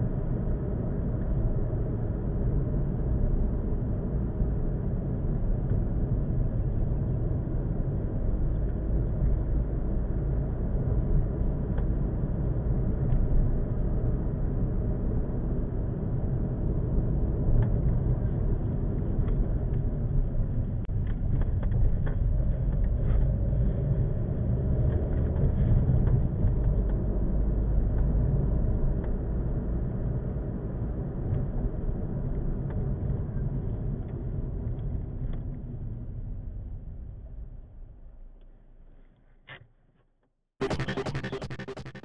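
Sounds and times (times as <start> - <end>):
car engine and tyre rumble: 0.0 - 39.1.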